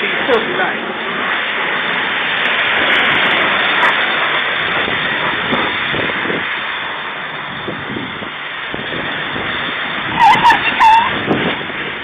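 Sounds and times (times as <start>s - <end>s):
pressure washer spraying water: 0.0s - 12.0s.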